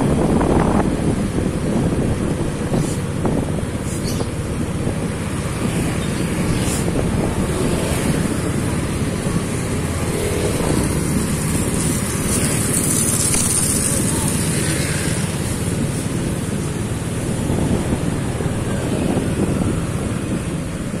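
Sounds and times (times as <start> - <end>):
wind on microphone: 0.0 - 21.0
motorcycle engine running: 0.2 - 20.9.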